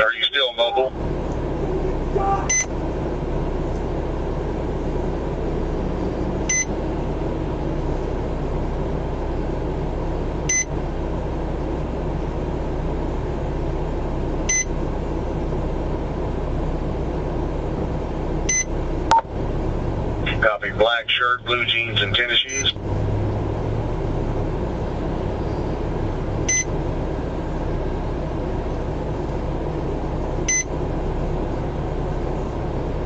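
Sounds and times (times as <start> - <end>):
vehicle running hum: 0.0 - 33.0.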